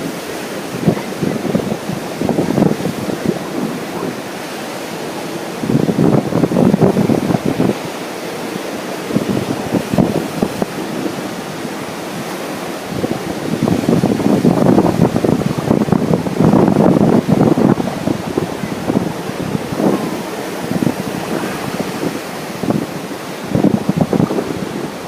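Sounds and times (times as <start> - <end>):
ocean surf: 0.0 - 25.0
wind buffeting microphone: 0.0 - 25.0.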